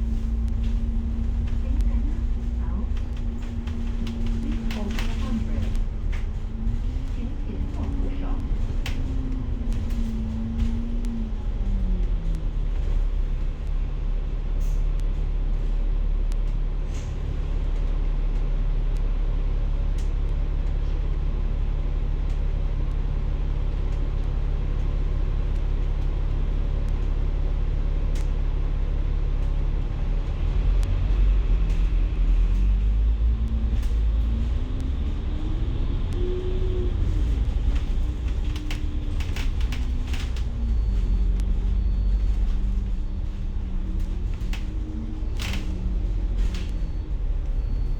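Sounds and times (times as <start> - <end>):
bus engine droning: 0.0 - 47.9.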